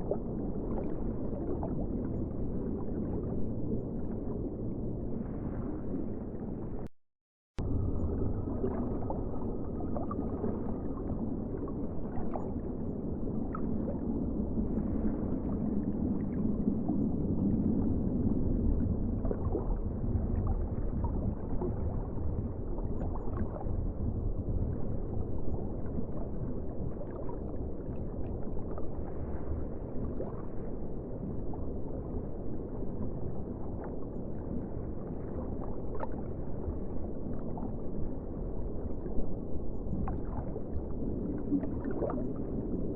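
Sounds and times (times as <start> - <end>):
muffled rush of ocean water: 0.0 - 6.9, 7.6 - 42.9.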